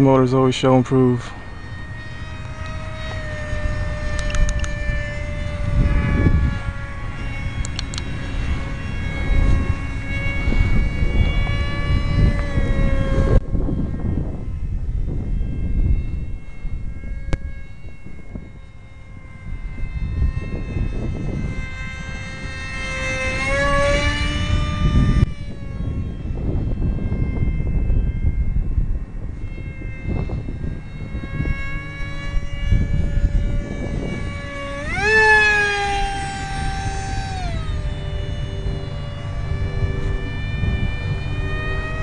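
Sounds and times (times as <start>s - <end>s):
model jet electric motor whine: 0.0s - 42.0s
wind rumble on microphone: 0.0s - 42.0s.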